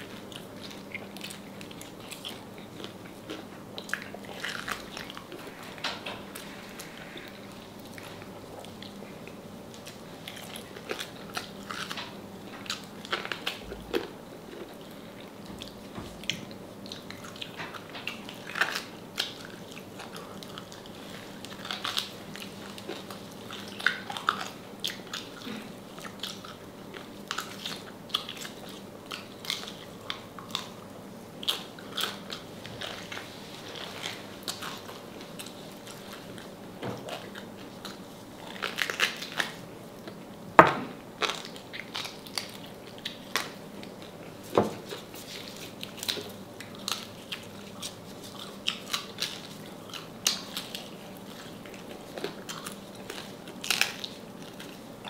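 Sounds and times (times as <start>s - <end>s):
crunching and chewing crispy food: 0.0s - 55.0s.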